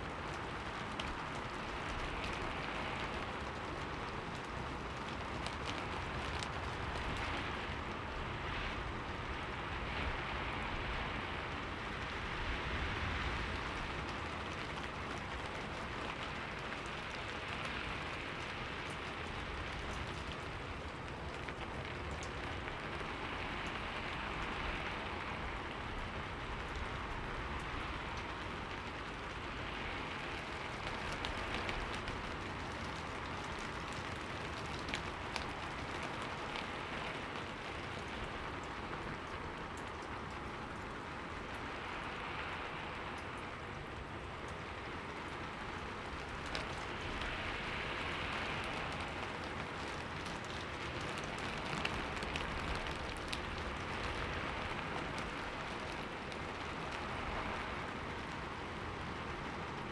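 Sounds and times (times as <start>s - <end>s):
rain falling on a window: 0.0s - 59.9s.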